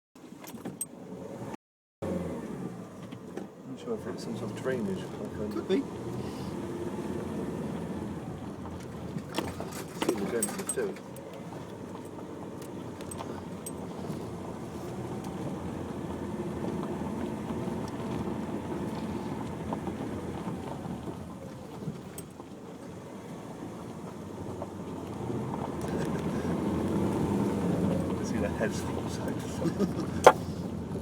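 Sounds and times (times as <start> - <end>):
car cabin rumble: 2.8 - 31.0.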